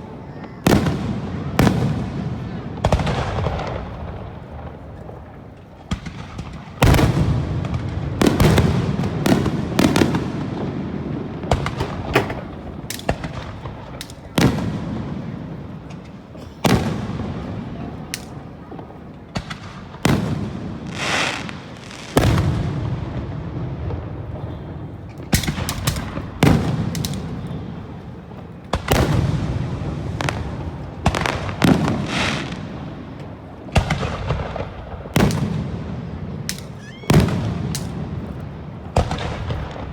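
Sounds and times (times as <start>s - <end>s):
fireworks rumble and crackle: 0.0s - 39.9s.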